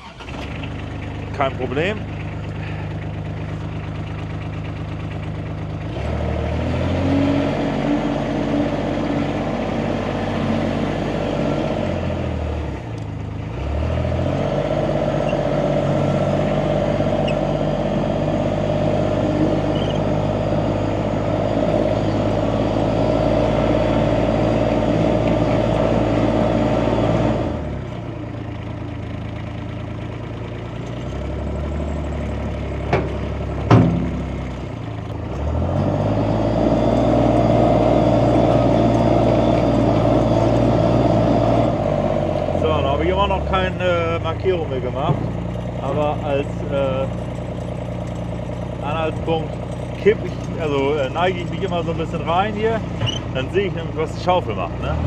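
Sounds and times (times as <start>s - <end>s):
diesel engine revving and idling: 0.0s - 55.0s.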